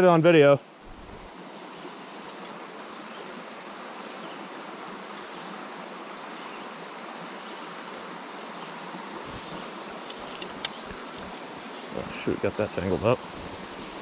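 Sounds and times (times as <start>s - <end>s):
stream rushing over stones: 0.6s - 14.0s.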